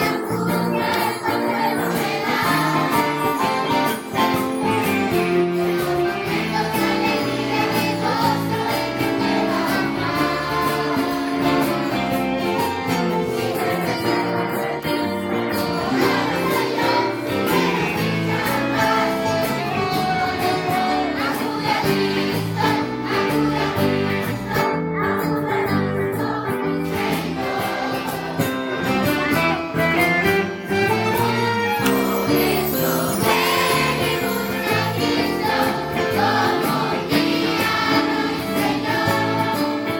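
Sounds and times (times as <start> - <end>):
jingling percussion: 0.0 - 24.4, 30.1 - 39.9
children's choir singing hymn: 0.0 - 29.1, 31.2 - 39.9
instrumental accompaniment: 0.0 - 39.9.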